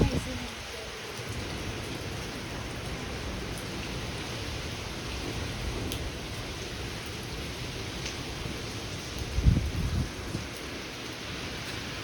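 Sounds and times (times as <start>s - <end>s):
heavy rain pouring: 0.0s - 12.0s
storm wind: 0.0s - 12.0s.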